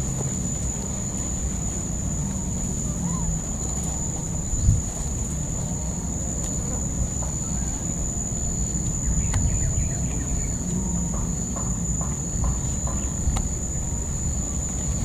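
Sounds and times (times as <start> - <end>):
forest insects droning: 0.0 - 15.0.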